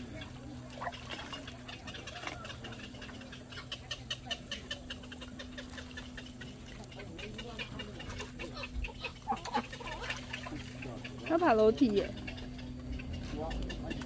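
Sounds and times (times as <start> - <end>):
ducks clucking chatter: 0.0 - 14.0.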